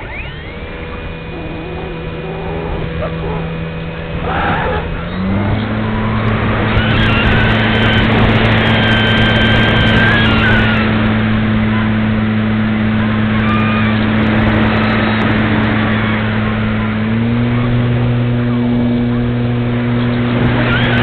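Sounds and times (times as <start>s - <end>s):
electric motor and propeller hum: 0.0s - 21.0s
wind rushing across microphone: 0.0s - 21.0s.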